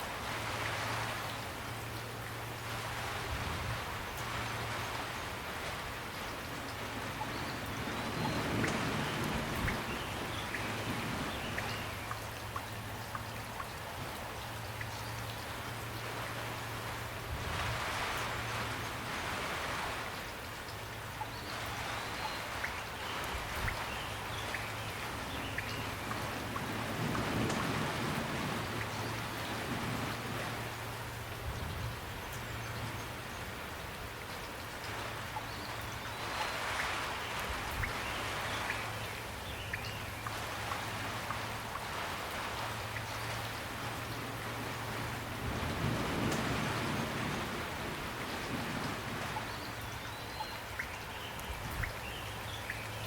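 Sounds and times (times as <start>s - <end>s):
raindrops ticking: 0.0s - 53.0s
steady rain: 0.0s - 53.0s.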